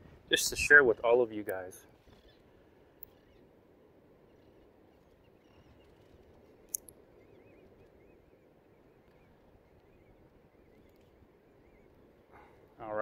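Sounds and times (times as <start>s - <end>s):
breeze and surf: 0.0s - 13.0s
distant birds calling: 0.0s - 13.0s.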